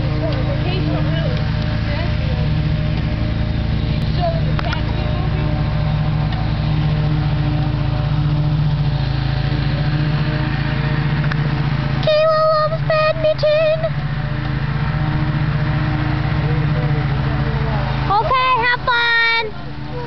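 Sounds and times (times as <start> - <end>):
high wavering squeal: 0.0 - 20.0
low motor drone: 0.0 - 20.0.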